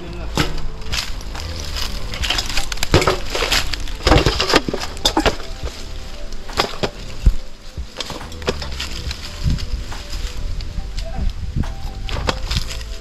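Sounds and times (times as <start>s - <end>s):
dry leaves crackling and rustling: 0.0s - 13.0s
twigs snapping: 0.0s - 13.0s.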